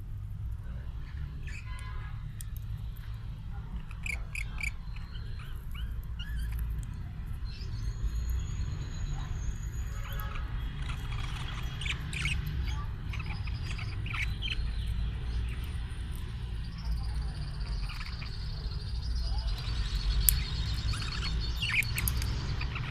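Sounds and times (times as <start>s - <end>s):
parakeet chirping: 1.0s - 2.6s, 3.7s - 22.9s.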